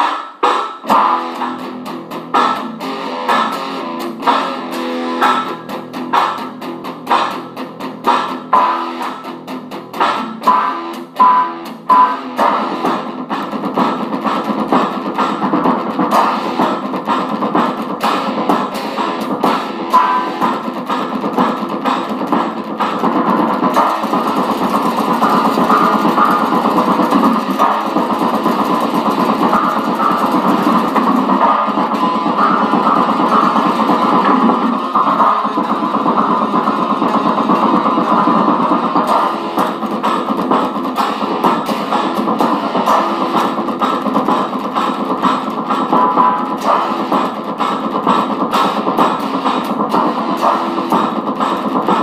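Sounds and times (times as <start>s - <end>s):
electric guitar chords and riffs: 0.0s - 52.0s.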